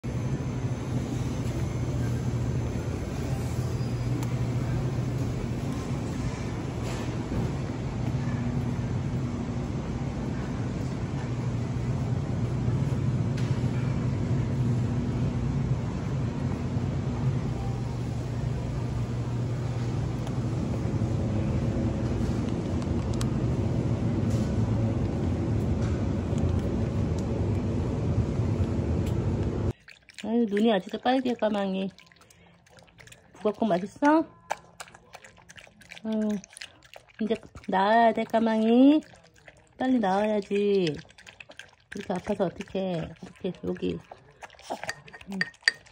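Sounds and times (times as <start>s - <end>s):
supermarket background hum: 0.0s - 45.9s.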